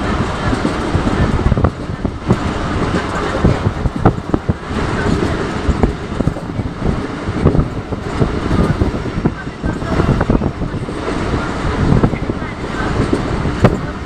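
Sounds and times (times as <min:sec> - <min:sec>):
train rumbling on track: 0:00.0 - 0:14.0
wheels clacking and knocking: 0:00.0 - 0:14.0.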